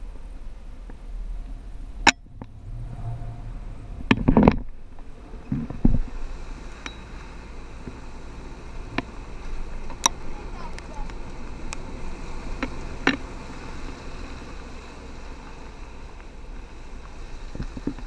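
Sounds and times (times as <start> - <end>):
vehicle low rumble: 0.0 - 18.0.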